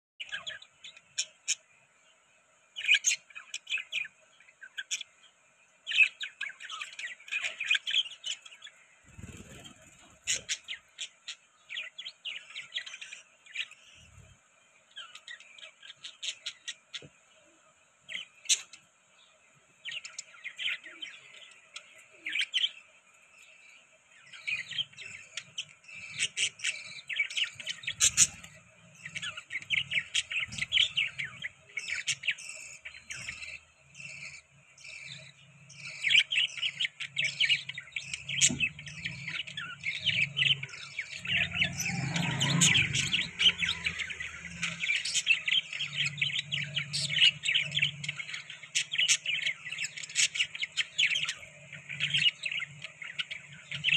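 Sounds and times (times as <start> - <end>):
budgies chattering and chirping: 0.2 - 1.8, 2.8 - 17.4, 18.0 - 53.9.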